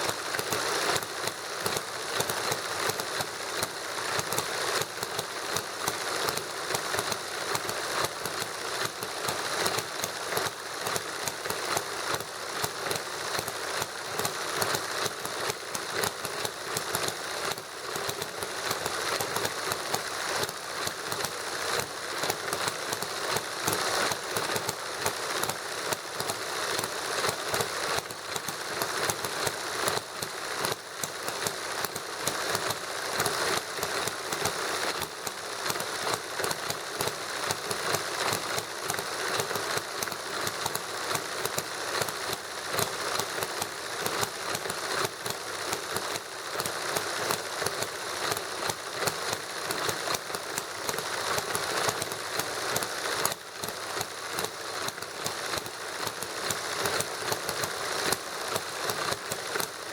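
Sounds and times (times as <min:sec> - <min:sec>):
small engines clicking and popping: 0:00.0 - 0:59.9.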